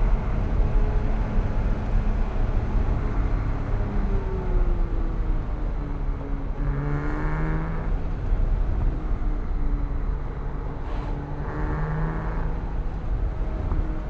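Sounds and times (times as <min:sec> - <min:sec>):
low road rumble: 0:00.0 - 0:14.0
sports car engine accelerating: 0:00.0 - 0:14.0.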